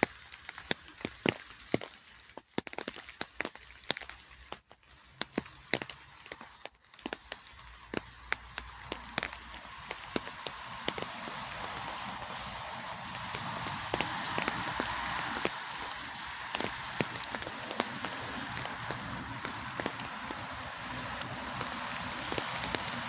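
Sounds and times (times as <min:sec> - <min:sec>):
large raindrops tapping: 0:00.0 - 0:23.0
steady rain hiss: 0:04.3 - 0:23.0.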